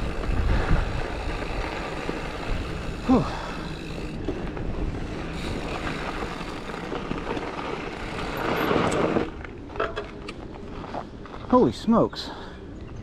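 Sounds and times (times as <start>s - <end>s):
wind buffeting camera: 0.0s - 11.5s
bike tyres rumbling on dirt: 0.0s - 12.4s.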